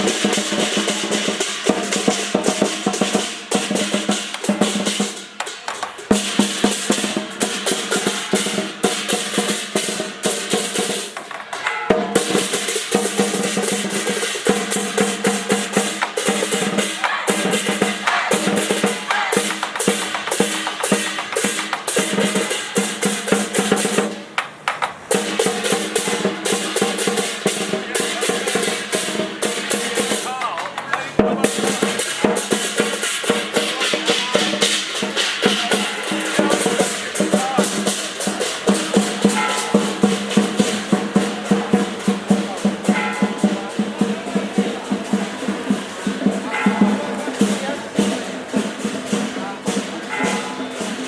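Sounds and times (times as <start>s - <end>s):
drums beaten fast: 0.0s - 51.0s
ringing metal percussion: 0.0s - 51.0s.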